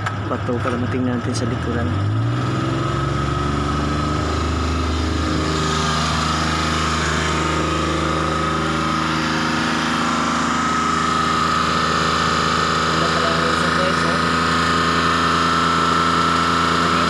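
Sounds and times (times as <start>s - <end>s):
van engine idling: 0.0s - 17.0s
steady high whine: 2.6s - 17.0s.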